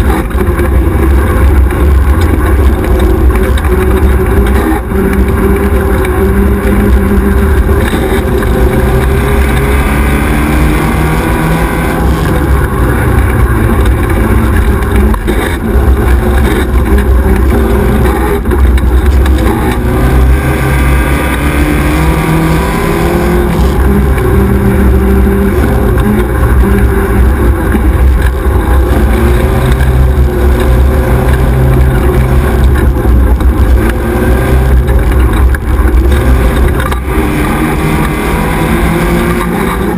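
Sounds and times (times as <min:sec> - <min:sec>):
buggy engine revving: 0:00.0 - 0:39.9
heavy low rumble: 0:00.0 - 0:39.9.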